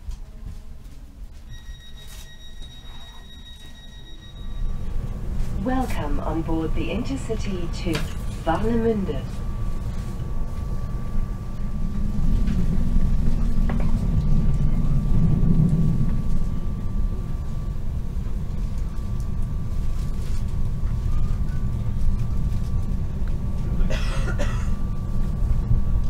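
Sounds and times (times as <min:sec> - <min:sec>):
train interior low rumble: 0:00.0 - 0:26.0.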